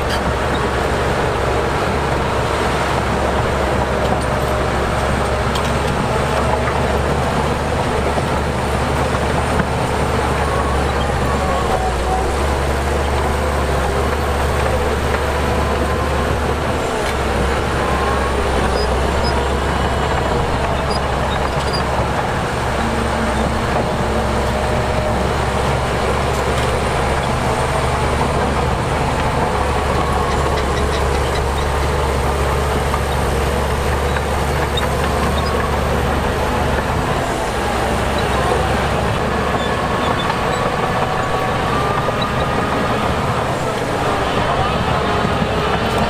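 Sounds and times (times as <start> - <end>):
diesel engine of heavy machinery: 0.0 - 46.0.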